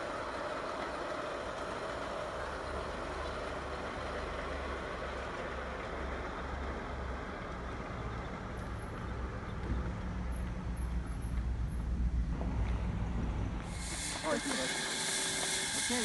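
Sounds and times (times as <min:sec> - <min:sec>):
noisy outdoor background: 0:00.0 - 0:16.0.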